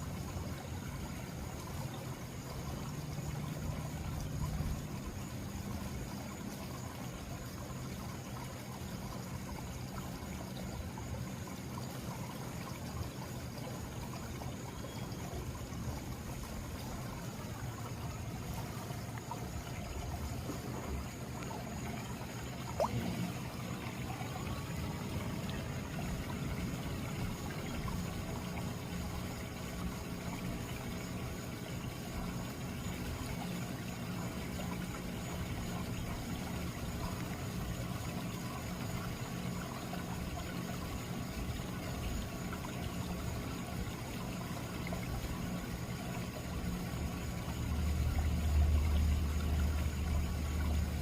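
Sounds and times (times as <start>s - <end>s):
waterfall splashing and trickling: 0.0s - 51.0s.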